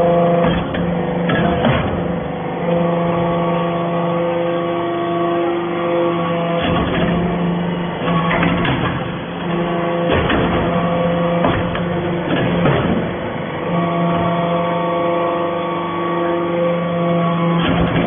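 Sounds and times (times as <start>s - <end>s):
hydraulic baler engine and pump hum: 0.0s - 18.0s.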